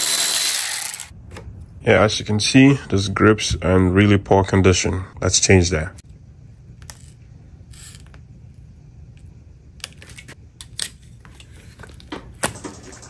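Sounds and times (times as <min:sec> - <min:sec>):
low steady hum: 0:01.1 - 0:13.0.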